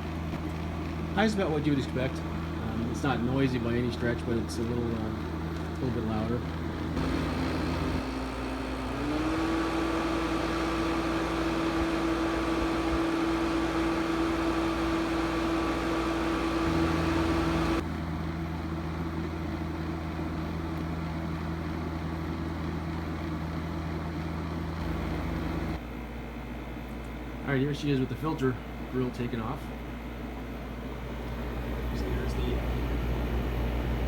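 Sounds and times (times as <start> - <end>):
air conditioner fan and compressor hum: 0.0 - 34.0.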